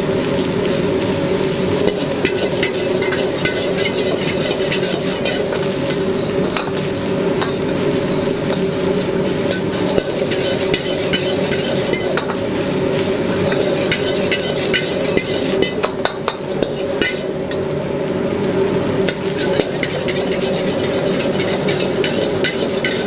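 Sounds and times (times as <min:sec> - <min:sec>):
rice sizzling in a wok: 0:00.0 - 0:23.0
metal ladle scraping wok: 0:01.8 - 0:17.6, 0:19.1 - 0:23.0.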